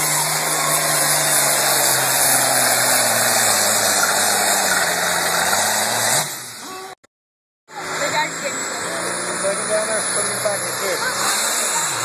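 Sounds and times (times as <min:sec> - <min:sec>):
tractor diesel engine roaring: 0:00.0 - 0:07.0, 0:07.7 - 0:12.0.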